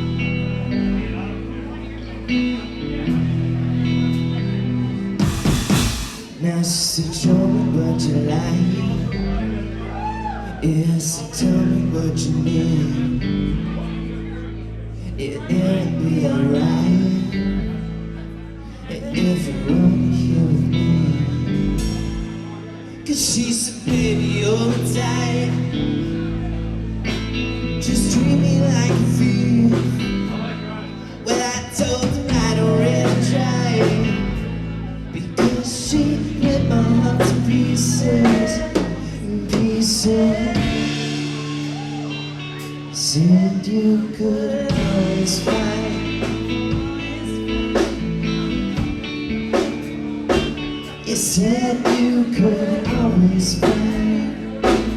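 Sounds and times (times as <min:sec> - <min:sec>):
drums: 0:00.0 - 0:14.2, 0:18.8 - 0:54.9
guitar: 0:00.0 - 0:54.9
low bass notes: 0:00.0 - 0:54.9
person singing: 0:05.2 - 0:54.9.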